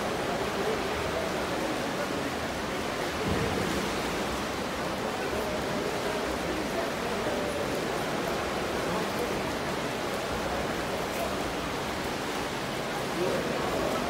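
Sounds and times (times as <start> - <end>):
faint voices: 0.0 - 14.0.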